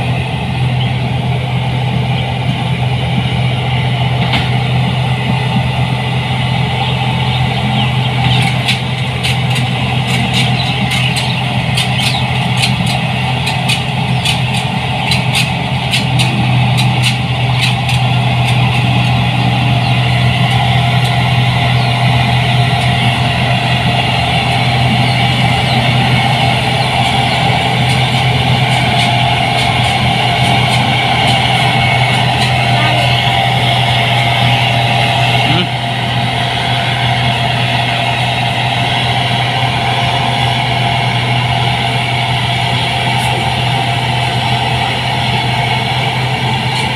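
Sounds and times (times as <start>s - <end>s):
combine harvester engine: 0.0s - 46.9s.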